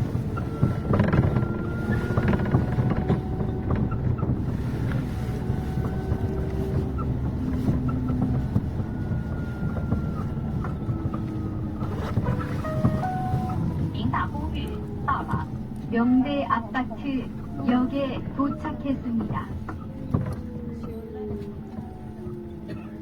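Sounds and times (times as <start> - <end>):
bus drive and road rumble: 0.0 - 23.0.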